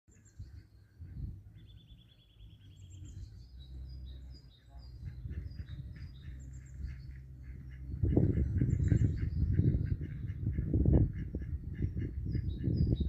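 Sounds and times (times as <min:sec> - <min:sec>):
small birds singing and chirping: 0:00.1 - 0:13.0
steady low rumble: 0:00.4 - 0:13.0.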